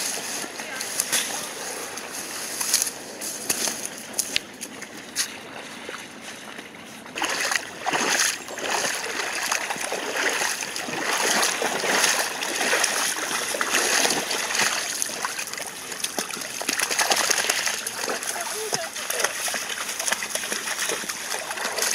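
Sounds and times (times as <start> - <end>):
dogs splashing through water: 0.0 - 21.9.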